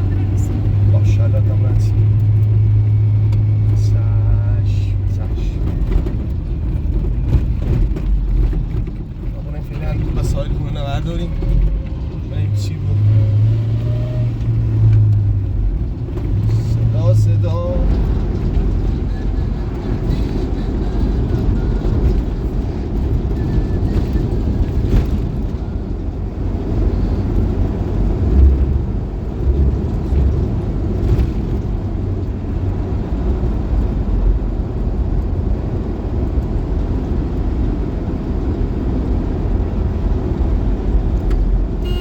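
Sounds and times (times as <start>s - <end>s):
heavy low bumps: 0.0s - 42.0s
vehicle engine and road noise: 0.0s - 42.0s.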